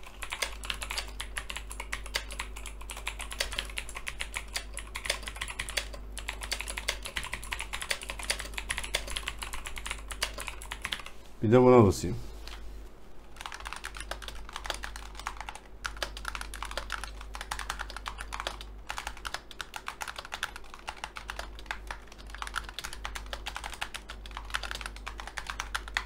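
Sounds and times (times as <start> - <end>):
fast typing on mechanical keyboard: 0.0 - 11.1, 13.4 - 26.0.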